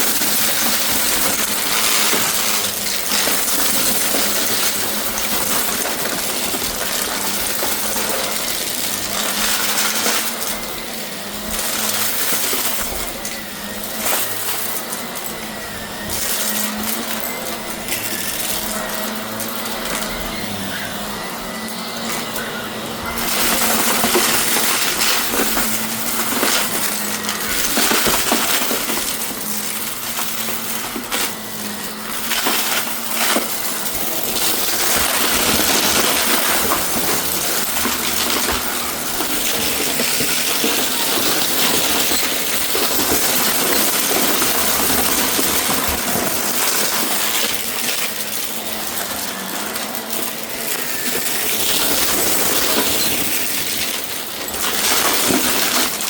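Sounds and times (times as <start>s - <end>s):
debris rattling through vacuum: 0.0s - 56.0s
vacuum cleaner running: 0.0s - 56.0s.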